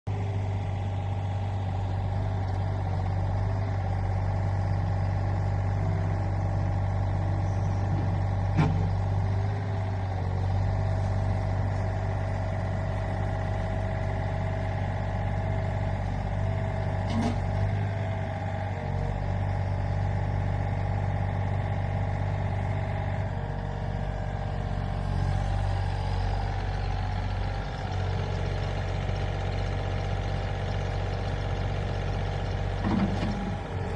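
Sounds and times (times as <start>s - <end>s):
excavator diesel engine running: 0.1s - 33.9s
hydraulics humming: 0.1s - 33.9s.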